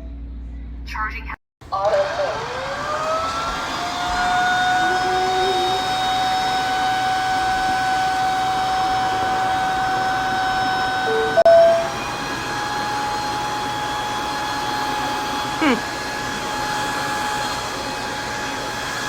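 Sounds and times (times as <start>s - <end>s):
vacuum cleaner motor whine: 1.7s - 19.0s.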